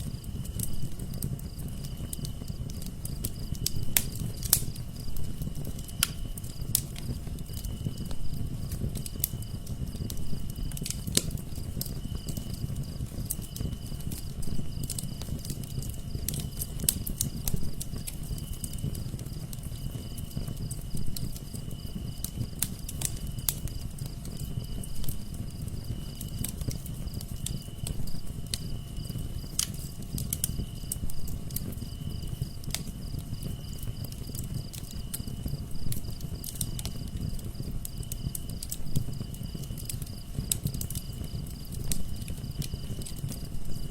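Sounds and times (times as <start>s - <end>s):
cricket chirping: 0.0s - 43.9s
wood fire crackling and popping: 0.0s - 43.9s.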